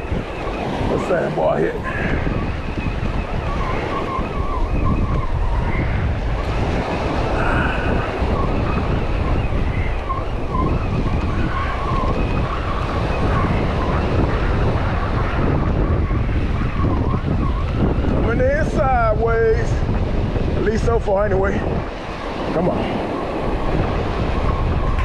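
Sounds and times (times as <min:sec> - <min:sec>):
ocean surf washing in: 0:00.0 - 0:04.3, 0:05.5 - 0:25.0
wind buffeting microphone: 0:00.0 - 0:25.0.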